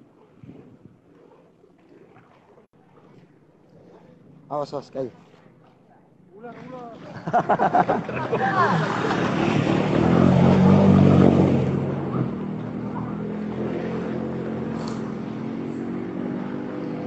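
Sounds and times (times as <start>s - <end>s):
rushing floodwater: 0.0s - 17.0s.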